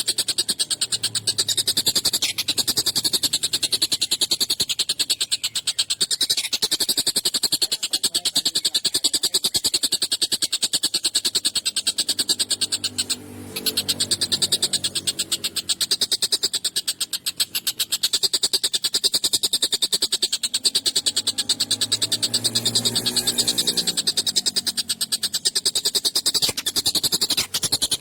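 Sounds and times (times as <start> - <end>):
kingfisher harsh chattering call: 0.0 - 28.0.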